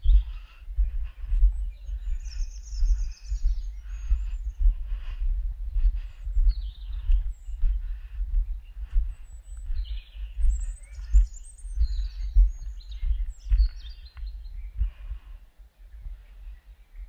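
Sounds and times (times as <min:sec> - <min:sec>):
regular low thuds: 0:00.0 - 0:17.0
songbirds chirping: 0:00.0 - 0:17.0.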